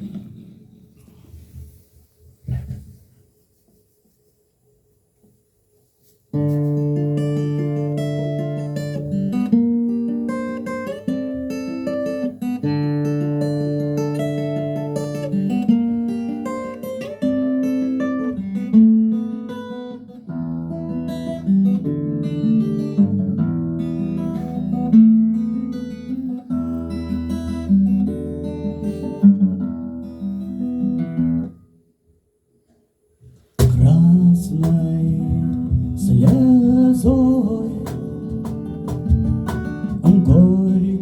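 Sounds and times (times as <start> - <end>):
acoustic guitar chords: 6.3 - 31.8, 33.2 - 41.0.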